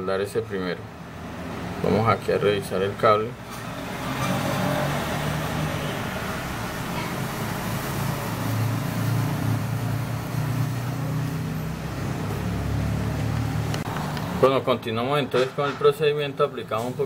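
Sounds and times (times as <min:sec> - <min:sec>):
constant background noise: 0:00.0 - 0:17.0.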